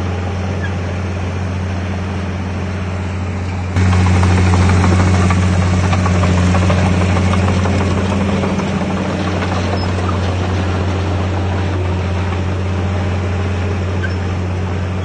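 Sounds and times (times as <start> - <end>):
diesel machinery engine hum: 0.0 - 15.0.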